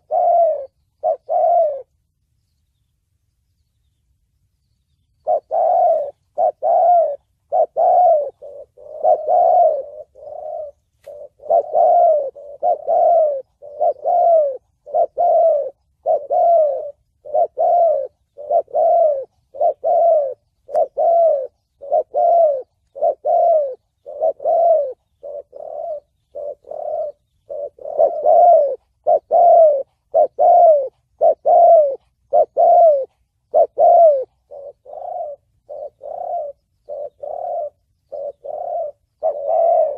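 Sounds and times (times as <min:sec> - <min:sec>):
dove cooing: 0:00.0 - 0:02.1, 0:05.2 - 0:39.9.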